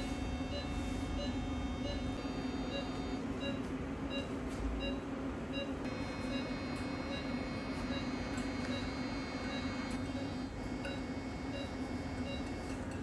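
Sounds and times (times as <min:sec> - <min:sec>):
patient monitor beeping: 0:00.0 - 0:12.8
medical equipment hum: 0:00.0 - 0:13.0.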